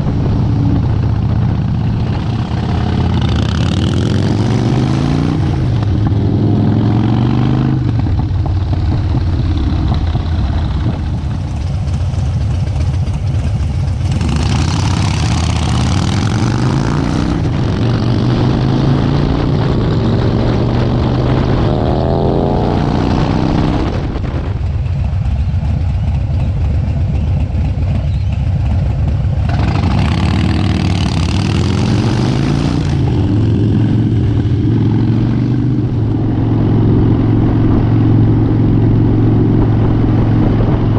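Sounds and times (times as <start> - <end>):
wind rush on microphone: 0.0 - 26.1, 29.2 - 40.9
motorcycle engine running: 0.0 - 40.9.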